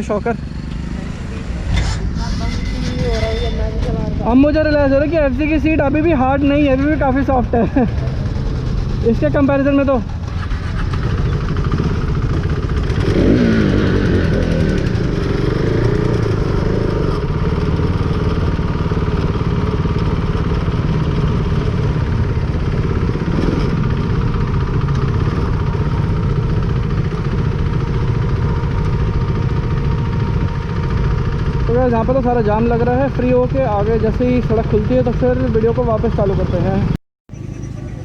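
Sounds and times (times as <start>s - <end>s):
motorcycle engine rumbling: 0.0s - 38.0s.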